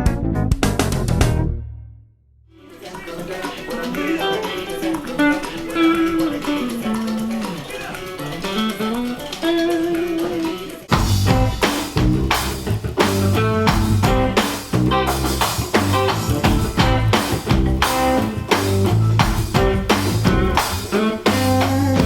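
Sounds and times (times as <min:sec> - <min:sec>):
drums and bass: 0:00.0 - 0:01.6, 0:02.7 - 0:22.0
guitar sliding melody: 0:02.6 - 0:22.0.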